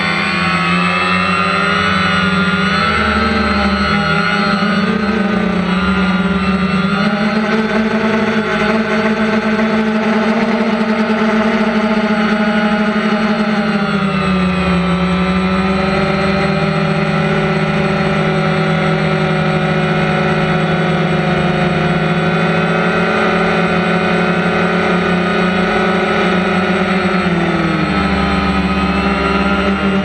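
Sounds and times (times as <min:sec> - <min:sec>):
drone propellers droning: 0:00.0 - 0:30.0.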